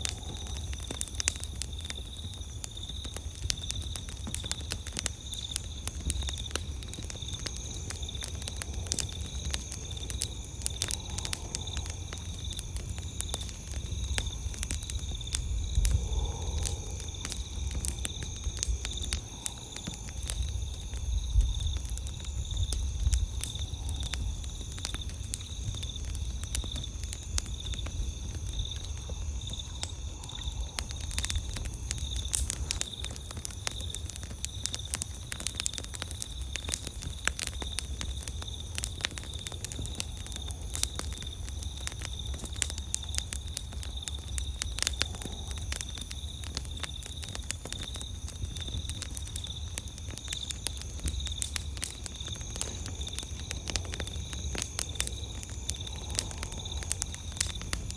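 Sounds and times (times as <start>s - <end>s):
campfire crackling and popping: 0.0s - 57.9s
night insects chirring: 0.0s - 57.9s.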